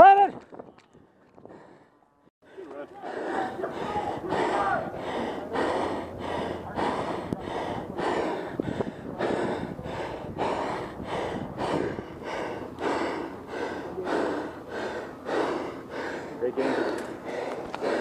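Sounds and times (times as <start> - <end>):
person breathing hard: 1.1 - 18.0.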